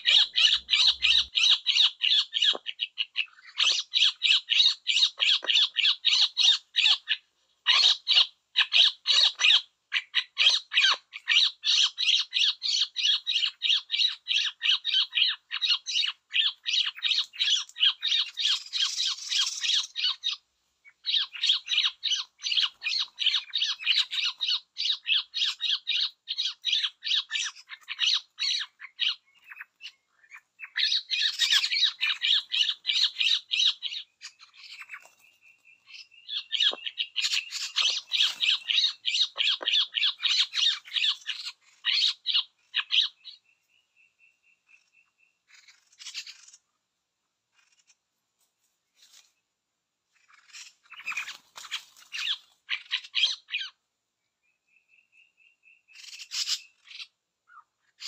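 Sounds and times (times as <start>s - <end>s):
harsh chattering bird calls: 0.0s - 46.8s, 47.5s - 48.1s, 50.1s - 58.0s.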